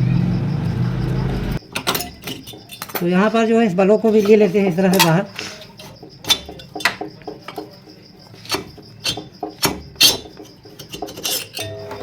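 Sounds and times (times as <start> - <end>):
metal engine parts clinking: 1.0 - 12.0.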